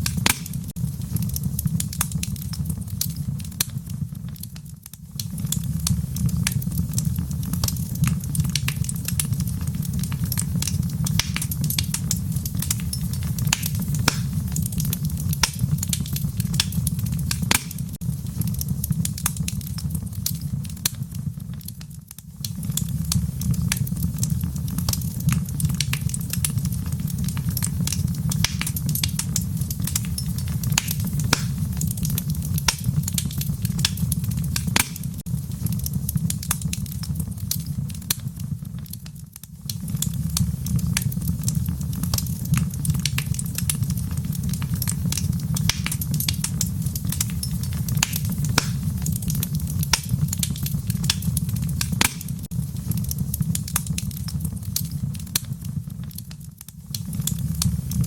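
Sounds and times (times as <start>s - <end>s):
fire pops and snaps: 0.0s - 58.0s
low rumble of flames: 0.0s - 58.0s.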